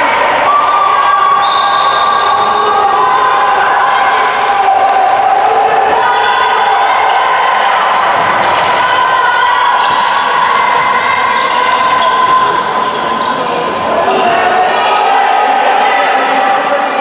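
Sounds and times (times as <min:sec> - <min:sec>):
players' voices: 0:00.0 - 0:17.0.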